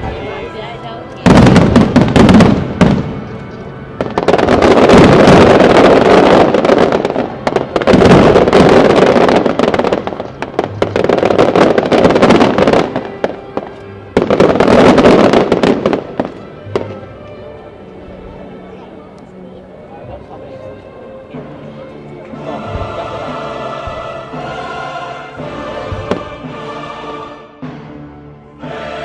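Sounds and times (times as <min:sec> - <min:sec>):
music playing: 0:00.0 - 0:29.0.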